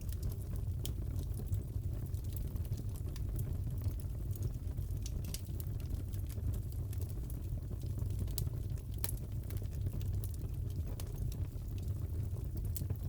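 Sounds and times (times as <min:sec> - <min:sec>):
fire popping and snapping: 0:00.0 - 0:13.0
low rumble of burning wood: 0:00.0 - 0:13.0.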